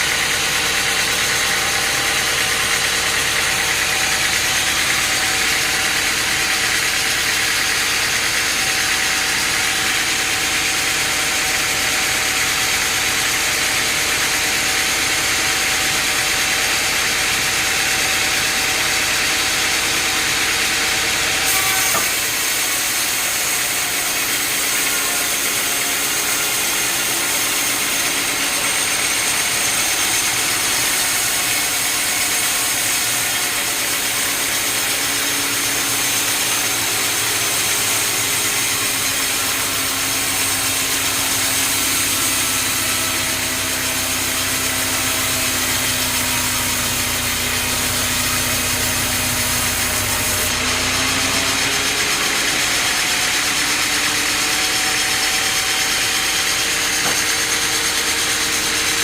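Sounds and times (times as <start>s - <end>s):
engine-driven saw cutting wood: 0.0s - 59.0s.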